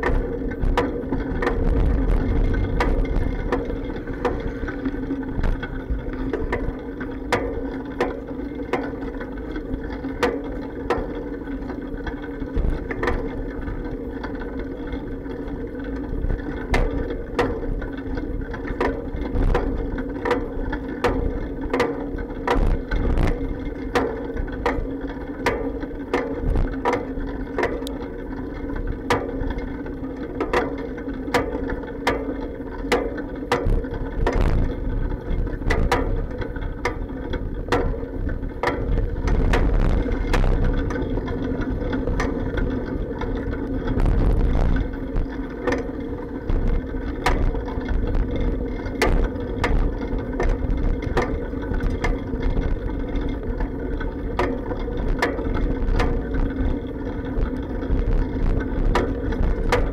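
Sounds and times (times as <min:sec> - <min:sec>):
bicycle rolling hum: 0:00.0 - 0:59.9.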